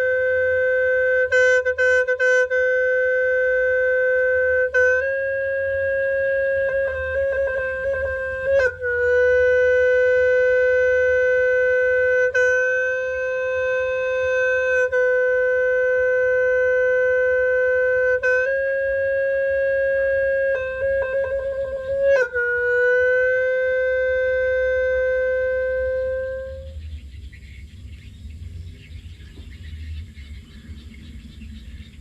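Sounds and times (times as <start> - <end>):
free reed horn held notes: 0.0 - 26.8.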